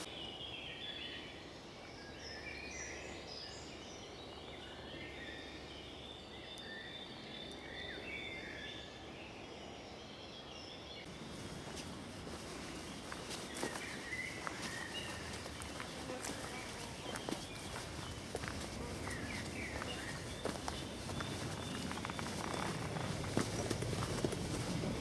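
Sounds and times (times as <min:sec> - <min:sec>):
songbirds singing and calling: 0:00.0 - 0:25.0.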